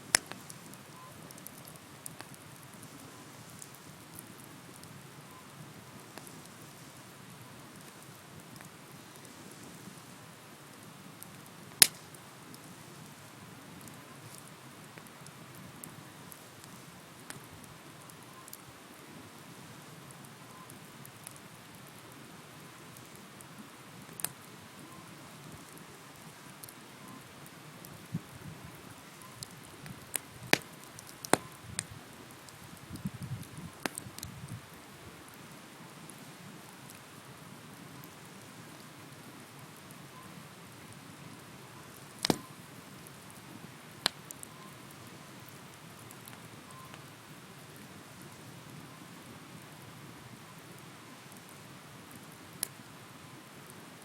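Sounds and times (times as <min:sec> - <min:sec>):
bonfire crackling: 0:00.0 - 0:54.0
small pops from fire: 0:00.0 - 0:54.0.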